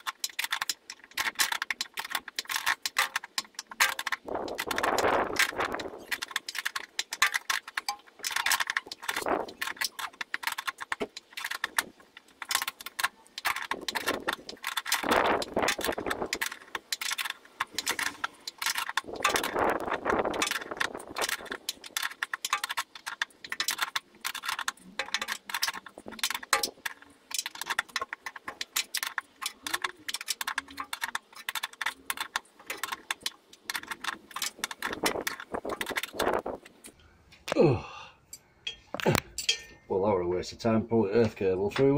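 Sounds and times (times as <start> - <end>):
scratching and scraping on metal: 0.0 - 37.0.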